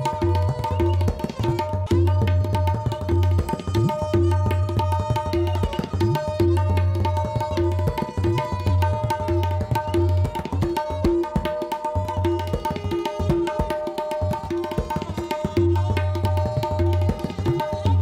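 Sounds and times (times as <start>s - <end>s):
tabla playing: 0.0s - 18.0s.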